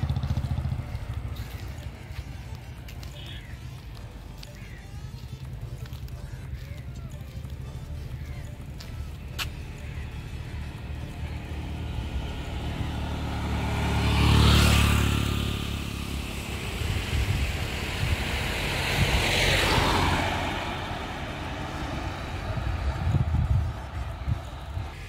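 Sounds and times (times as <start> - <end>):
road vehicles passing: 0.0 - 25.0.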